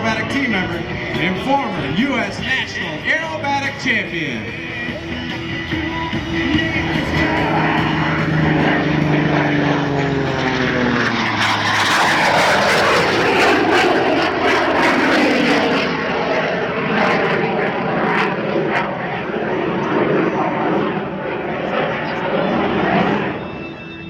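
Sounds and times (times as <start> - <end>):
biplane flying past: 0.0 - 24.0
rushing jet engine noise: 0.0 - 24.0.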